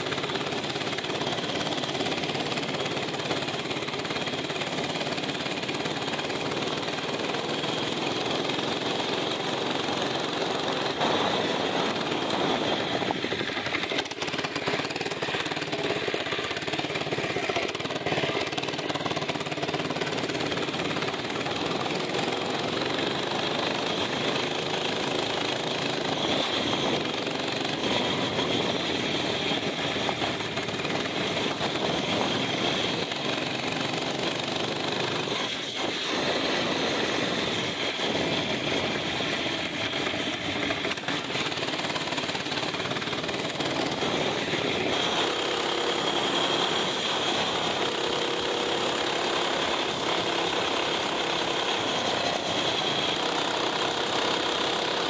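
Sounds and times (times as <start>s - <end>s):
small motorbike engine running: 0.0s - 55.0s.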